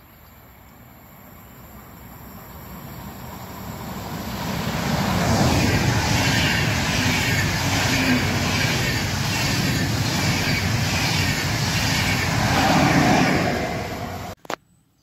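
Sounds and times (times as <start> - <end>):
train passing on rails: 0.0 - 14.4.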